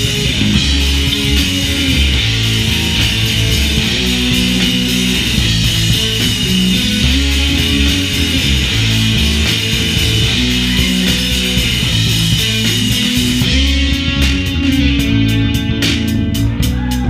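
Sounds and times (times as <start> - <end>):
drum and cymbal hits: 0.0 - 17.0
live rock band playing: 0.0 - 17.0.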